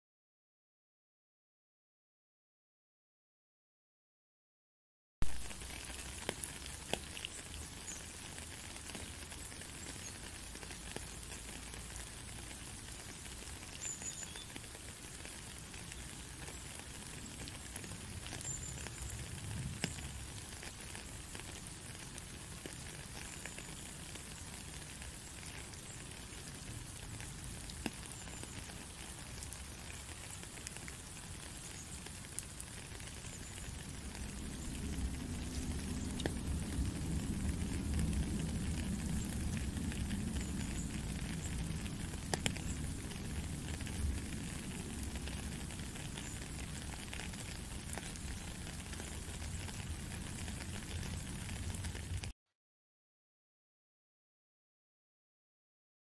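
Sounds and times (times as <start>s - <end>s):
rain on puddle and ground: 5.2s - 52.4s.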